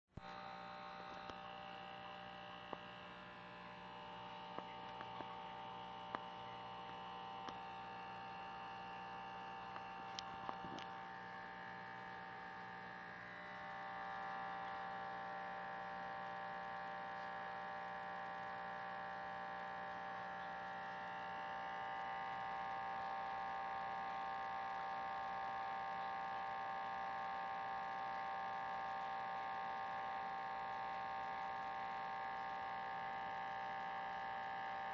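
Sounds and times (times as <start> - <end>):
aquarium filter motor hum: 0.2 - 34.9.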